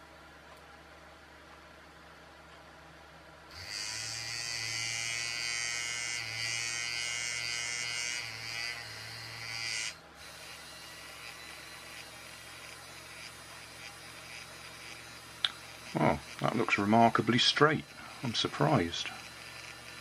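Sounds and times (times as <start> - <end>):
small electric motor whining: 3.5 - 20.0.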